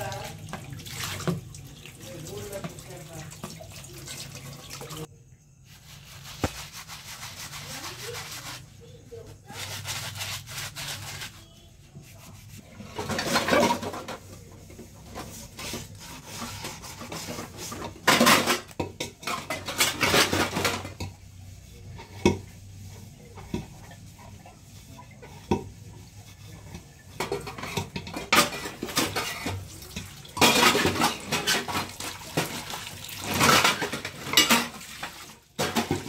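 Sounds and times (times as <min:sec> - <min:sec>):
dishes scrubbed by hand: 0:00.0 - 0:36.0.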